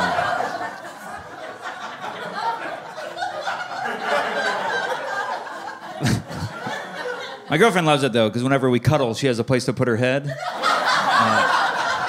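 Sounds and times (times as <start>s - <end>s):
audience laughing: 0.0s - 8.0s, 10.2s - 12.0s.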